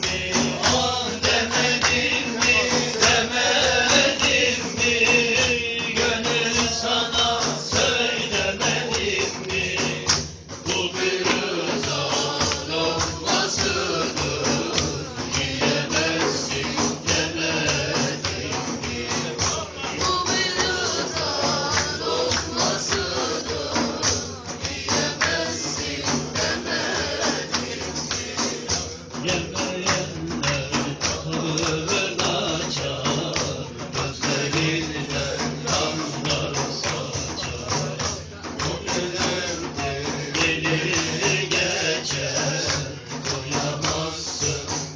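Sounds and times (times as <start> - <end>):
fast hand percussion: 0.0 - 44.9
voices singing: 0.0 - 44.9.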